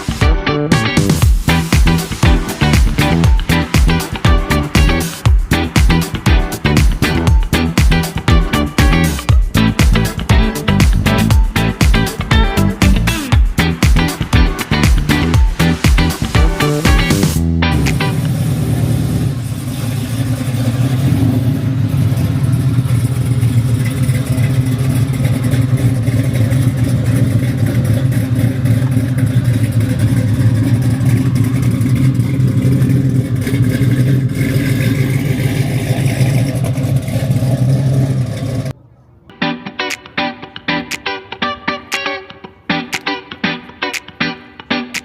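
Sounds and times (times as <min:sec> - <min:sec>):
car engine idling: 0:00.0 - 0:38.8.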